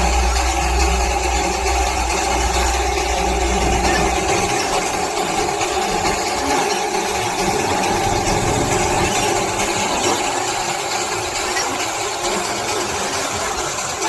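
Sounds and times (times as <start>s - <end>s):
low hum: 0.0s - 14.0s
steam locomotive running: 0.0s - 14.0s.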